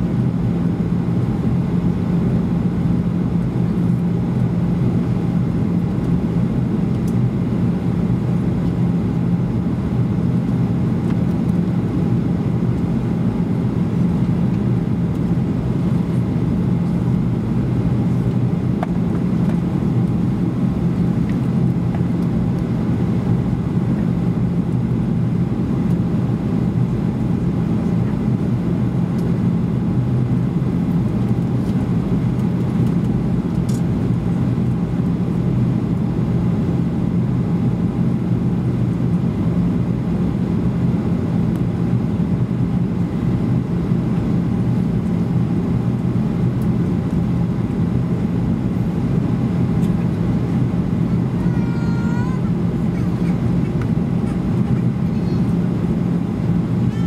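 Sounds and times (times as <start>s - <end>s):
jet engines droning: 0.0s - 57.0s
rush of air in aircraft cabin: 0.0s - 57.0s
steady low hum: 0.0s - 57.0s.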